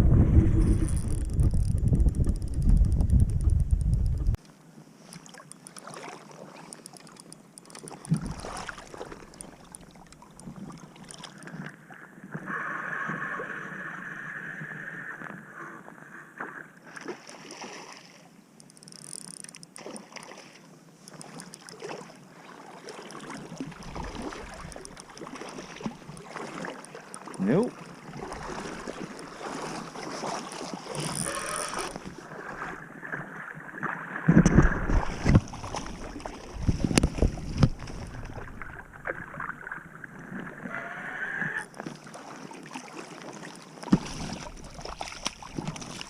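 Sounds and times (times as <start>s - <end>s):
river water: 0.0s - 46.0s.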